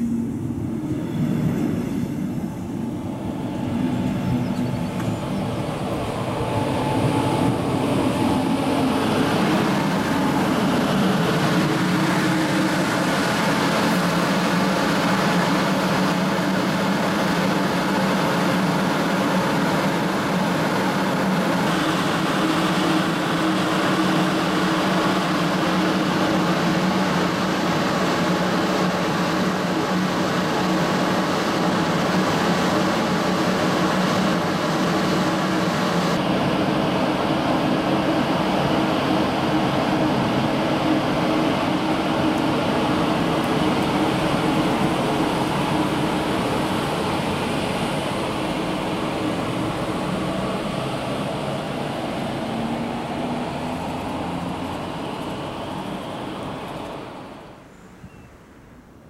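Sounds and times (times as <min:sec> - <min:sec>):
electric locomotive humming: 0:00.0 - 0:59.0.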